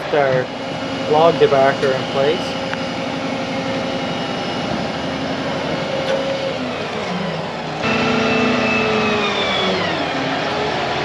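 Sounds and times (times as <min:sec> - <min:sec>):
crane engine revving: 0:00.0 - 0:11.0
rising whine: 0:00.0 - 0:11.0.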